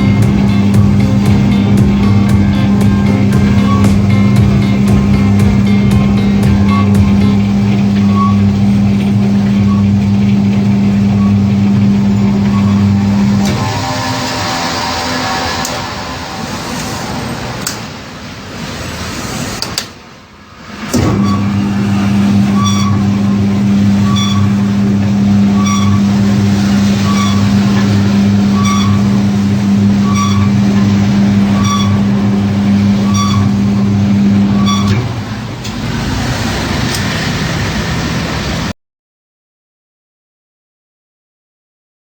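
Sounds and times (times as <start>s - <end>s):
mixer motor humming: 0.0s - 18.0s, 21.0s - 38.6s.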